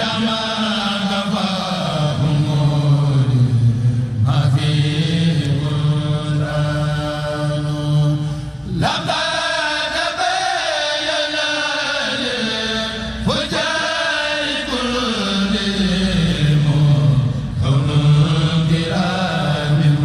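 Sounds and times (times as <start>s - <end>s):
group chanting in unison: 0.0s - 20.0s.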